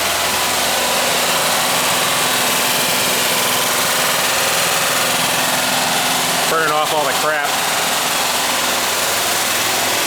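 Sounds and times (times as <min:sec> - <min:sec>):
engine idling with lifter tapping: 0:00.0 - 0:10.0.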